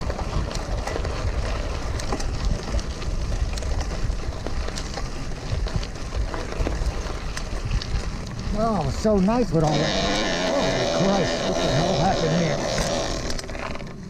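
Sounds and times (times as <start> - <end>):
wind buffeting microphone: 0.0 - 12.8
bicycle rolling on road: 0.0 - 14.0
ticks and clicks from bike: 0.0 - 14.0.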